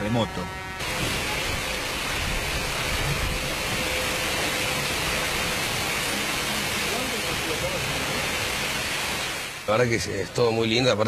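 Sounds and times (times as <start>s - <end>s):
water cascading and spraying: 0.0s - 11.0s.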